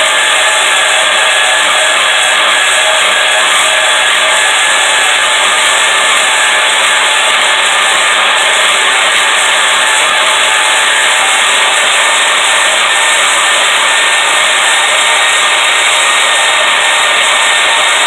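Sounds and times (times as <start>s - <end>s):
power tool cutting steel: 0.0s - 18.0s.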